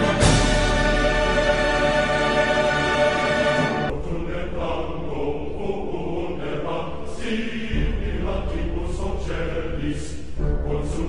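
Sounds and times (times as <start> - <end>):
chanted vocal track: 0.0 - 11.0.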